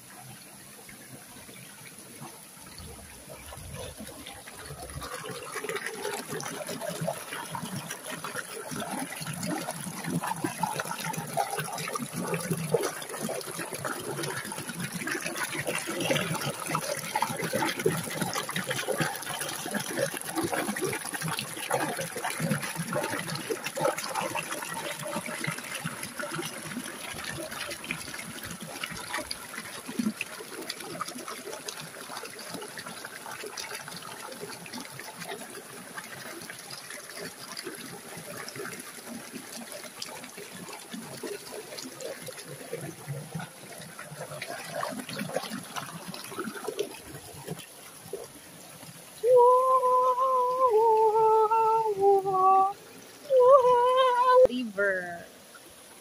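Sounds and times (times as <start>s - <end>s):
stream water splashing and gurgling: 0.0s - 56.0s.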